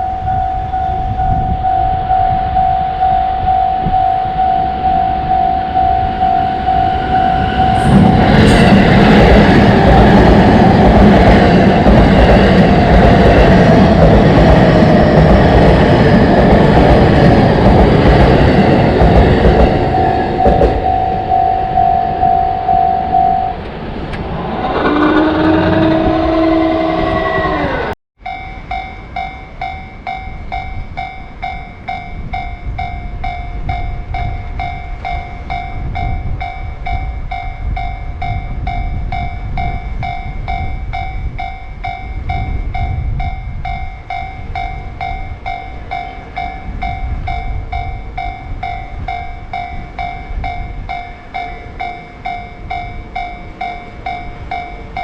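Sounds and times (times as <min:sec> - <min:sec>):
railroad crossing bell ringing: 0:00.0 - 0:23.8, 0:27.5 - 0:55.0
passing train whine: 0:00.0 - 0:55.0
train rumbling past: 0:00.0 - 0:55.0.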